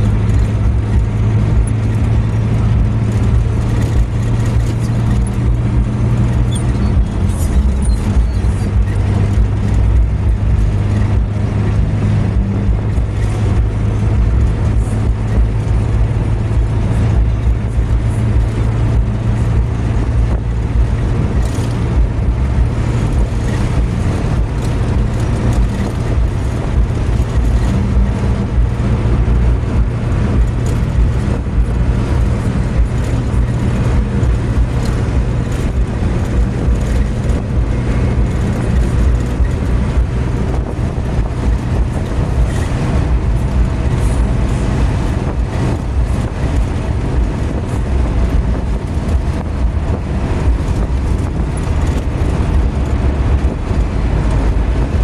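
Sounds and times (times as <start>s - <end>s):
car engine hum: 0.0s - 55.0s
tyre and road noise: 0.0s - 55.0s.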